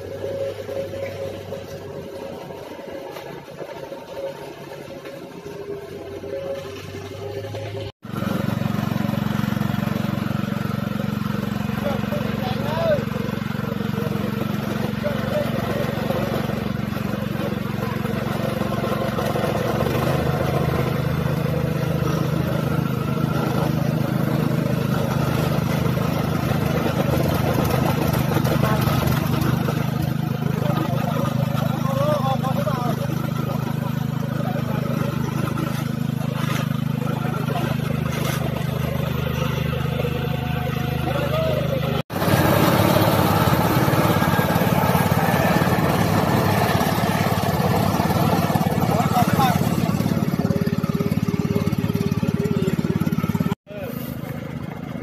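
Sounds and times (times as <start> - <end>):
plate compactors running: 0.0 - 55.0.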